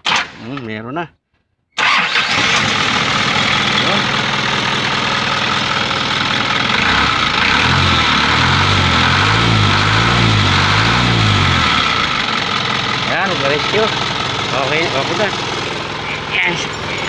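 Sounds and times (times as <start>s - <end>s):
diesel engine idling: 1.8s - 17.0s.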